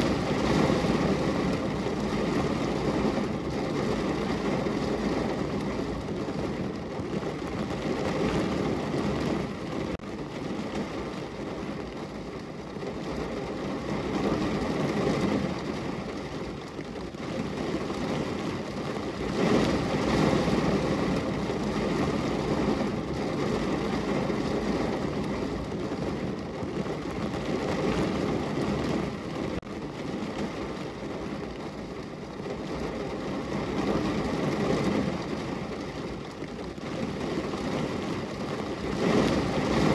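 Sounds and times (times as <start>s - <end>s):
rain pattering on window: 0.0s - 39.9s.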